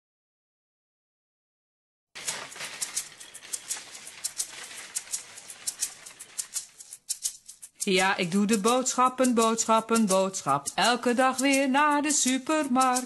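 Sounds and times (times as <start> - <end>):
shopping trolley rattling on pavement: 2.2 - 13.0.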